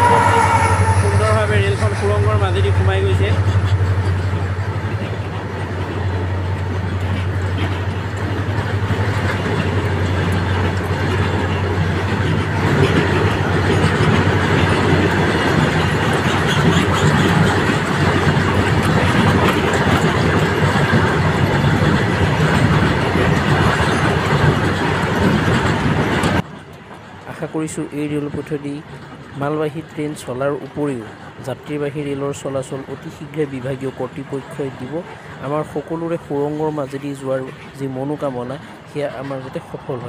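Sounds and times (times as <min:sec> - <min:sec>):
freight wagons rolling on rails: 0:00.0 - 0:40.0.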